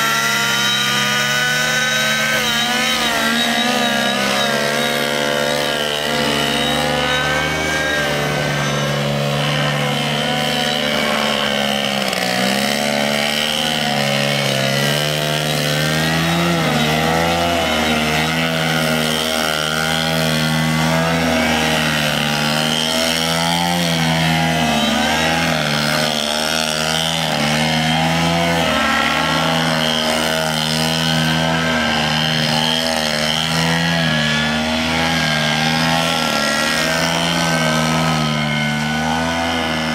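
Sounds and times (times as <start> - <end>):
model plane engine revving: 0.0 - 39.9.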